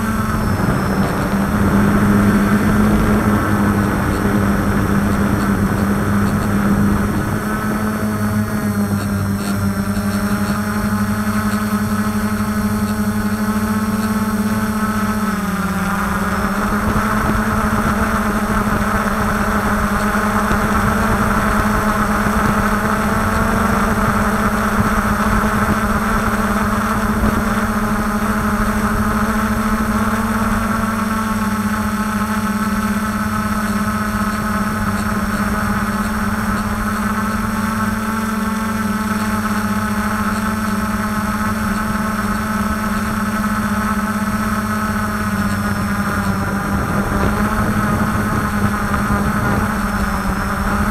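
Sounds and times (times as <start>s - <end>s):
drone motors and propellers whirring: 0.0s - 50.9s.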